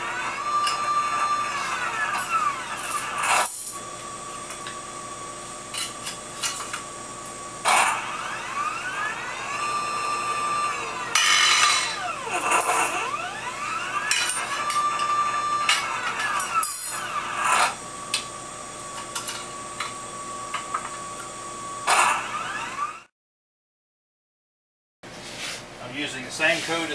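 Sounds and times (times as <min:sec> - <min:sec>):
motor whining: 0:00.0 - 0:23.1.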